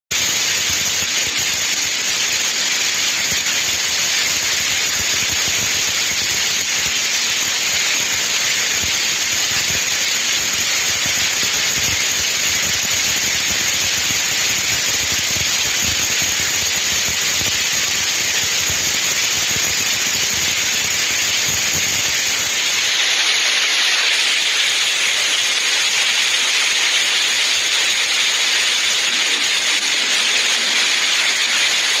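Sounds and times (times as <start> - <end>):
heavy rain: 0.1 - 32.0.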